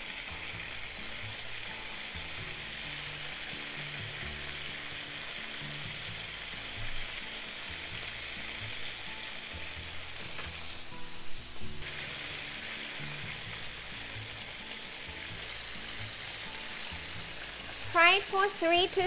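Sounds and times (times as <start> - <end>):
tofu deep-frying in oil: 0.0 - 19.0.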